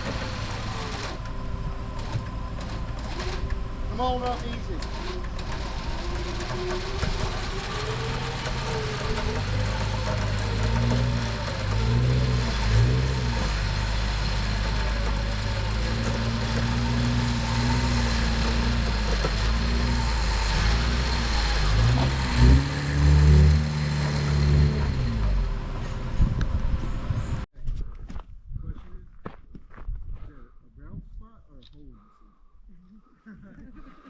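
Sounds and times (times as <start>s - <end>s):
off-road vehicle engine revving: 0.0s - 27.5s.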